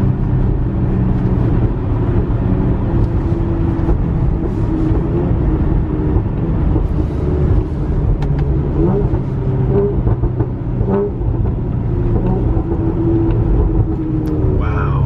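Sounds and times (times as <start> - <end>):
car engine running: 0.0 - 15.0
road rumble: 0.0 - 15.0.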